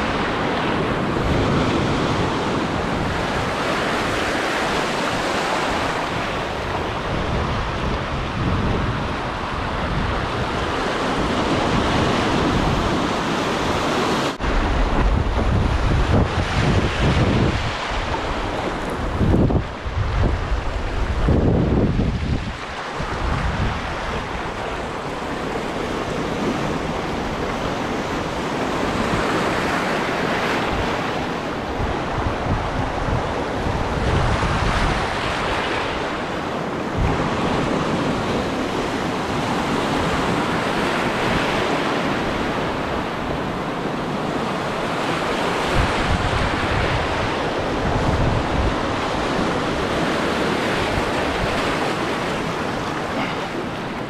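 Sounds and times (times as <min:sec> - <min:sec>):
surf breaking on rocky shore: 0:00.0 - 0:54.0
wind buffeting microphone: 0:00.0 - 0:54.0.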